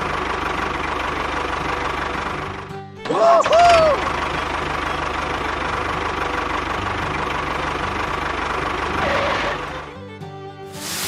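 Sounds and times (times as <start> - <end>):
engine chugging: 0.0 - 10.9
music: 0.0 - 11.0.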